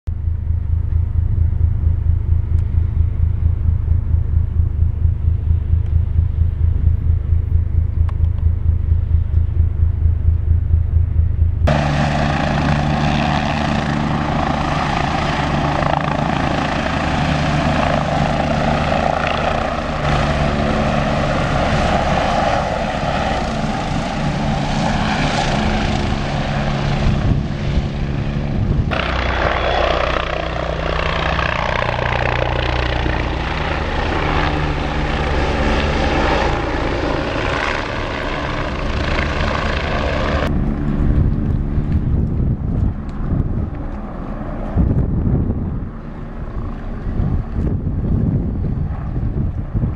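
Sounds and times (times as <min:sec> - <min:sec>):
helicopter rotor and turbine: 0:00.1 - 0:49.9.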